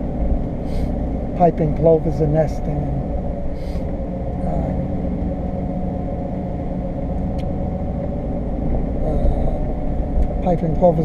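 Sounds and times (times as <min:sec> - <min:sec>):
engine and drivetrain rumble: 0:00.0 - 0:11.0
faint steady whine: 0:00.0 - 0:11.0.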